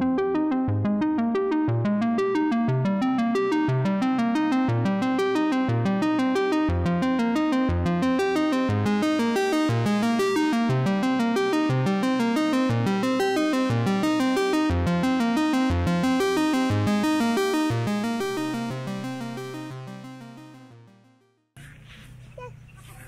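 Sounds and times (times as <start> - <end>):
background music with repeated notes: 0.0 - 21.4.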